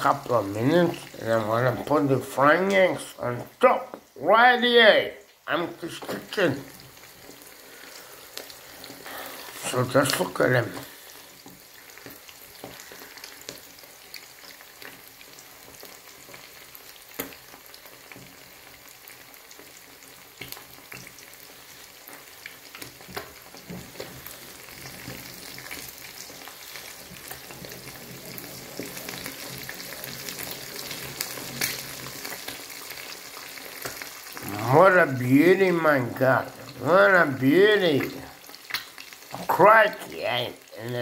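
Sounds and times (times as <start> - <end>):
eggs sizzling in a frying pan: 0.0 - 41.0
fat popping and crackling: 5.8 - 18.4, 19.6 - 41.0.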